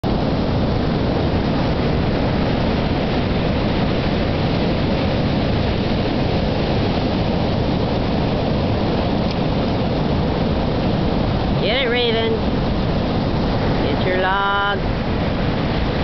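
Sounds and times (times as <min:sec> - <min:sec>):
surf: 0:00.0 - 0:16.0
wind: 0:00.0 - 0:16.0.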